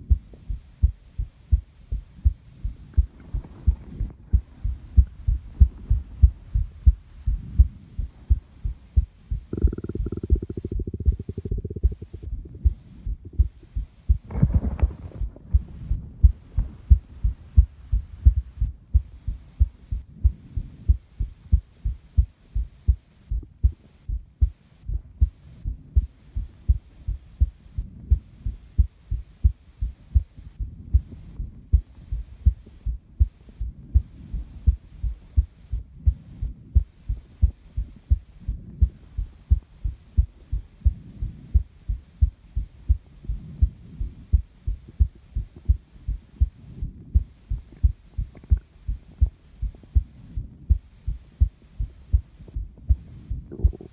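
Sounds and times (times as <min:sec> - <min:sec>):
heartbeat thumps: 0:00.0 - 0:53.9
soft breathing: 0:00.0 - 0:53.9.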